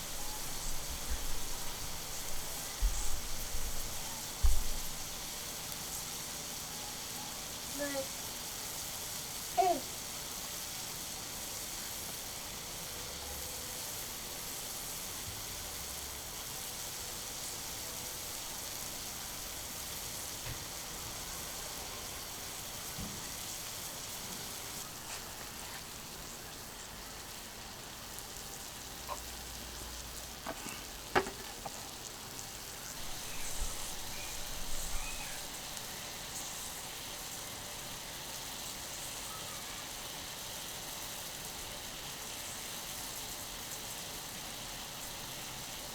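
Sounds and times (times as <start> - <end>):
steak sizzling on a griddle: 0.0 - 45.9.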